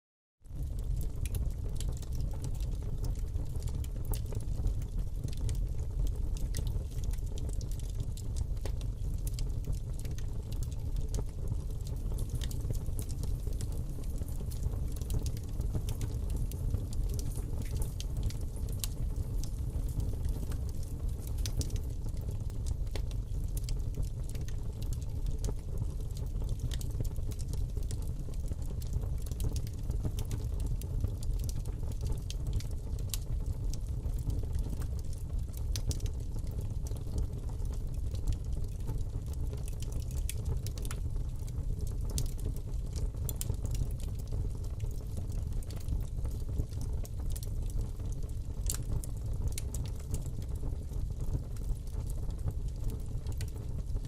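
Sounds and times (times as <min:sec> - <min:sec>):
fire rumbling in fireplace: 0:00.4 - 0:54.0
fire crackling and popping: 0:00.5 - 0:54.0.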